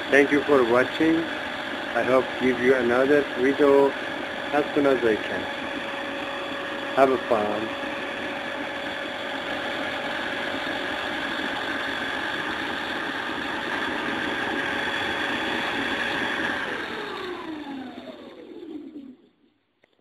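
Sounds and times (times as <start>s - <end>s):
small motor mechanical whine: 0.0s - 19.5s.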